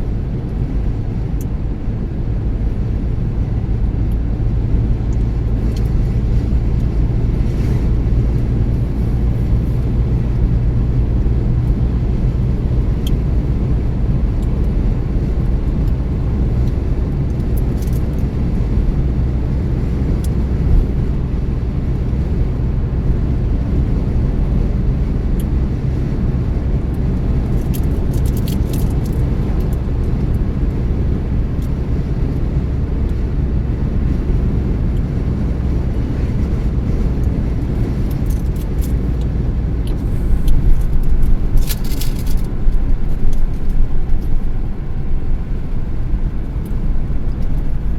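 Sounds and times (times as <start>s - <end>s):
car engine rumble: 0.0s - 47.9s
tyre road noise: 0.0s - 47.9s.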